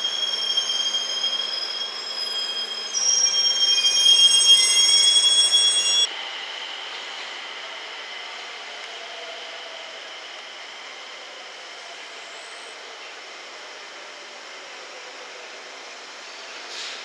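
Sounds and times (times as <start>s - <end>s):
train wheels squealing on rails: 0.0s - 17.0s.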